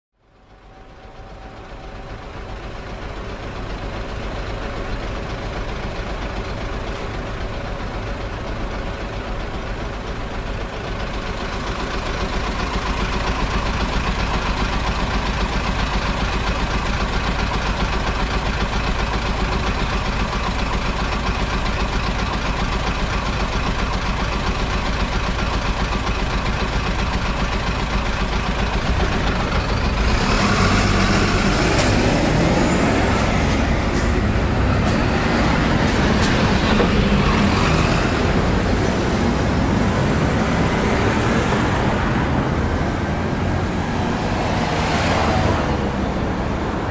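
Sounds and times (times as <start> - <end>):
bus engine humming: 0.2 - 46.9.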